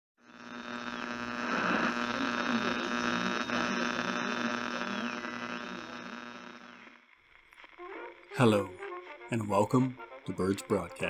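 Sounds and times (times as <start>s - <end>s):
electrical hum and static: 0.2s - 11.0s.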